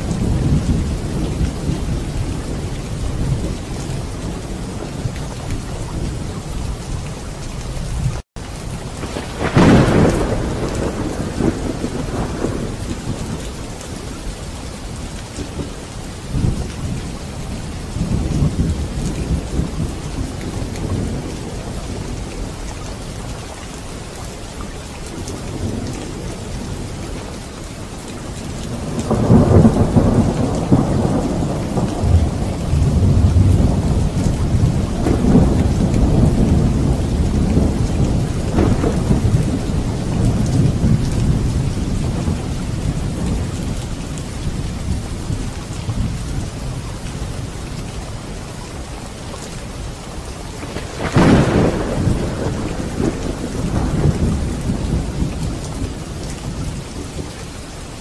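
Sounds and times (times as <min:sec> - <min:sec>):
thunder rumbling: 0:00.0 - 0:23.0, 0:28.0 - 0:47.4, 0:50.5 - 0:57.3
steady rain pouring: 0:00.0 - 0:58.0.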